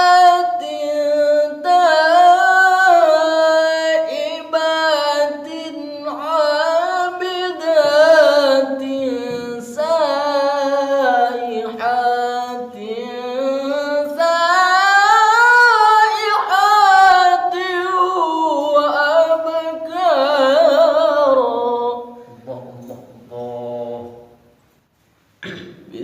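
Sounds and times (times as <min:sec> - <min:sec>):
person reciting melodically: 0:00.0 - 0:24.5.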